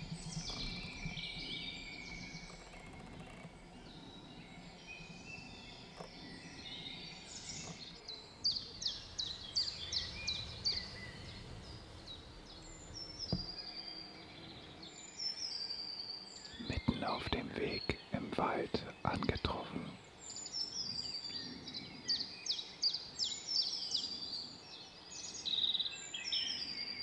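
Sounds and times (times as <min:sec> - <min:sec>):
distant songbirds singing: 0:00.0 - 0:27.0.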